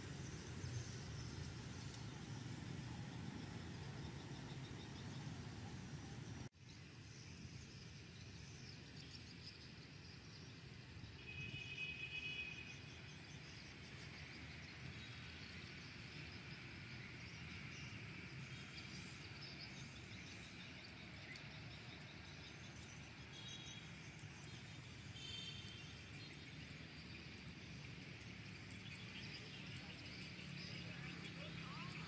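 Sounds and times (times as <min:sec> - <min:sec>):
faint chirping of birds or insects: 0:00.0 - 0:32.0.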